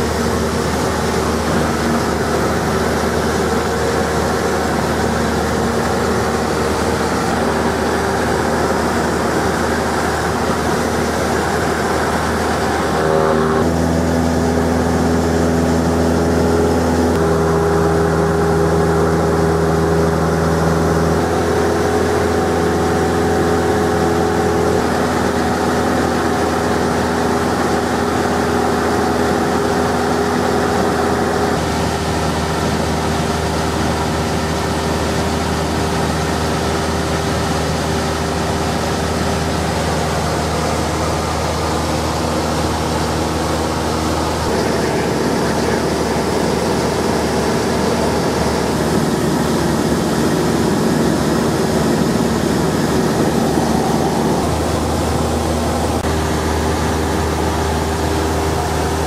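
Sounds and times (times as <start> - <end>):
piston engine and propeller drone: 0.0 - 59.0.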